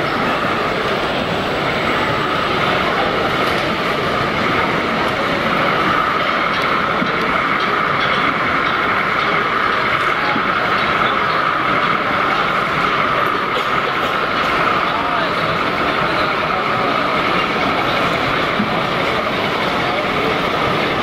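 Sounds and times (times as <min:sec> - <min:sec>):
model train running with whine: 0:00.0 - 0:21.0.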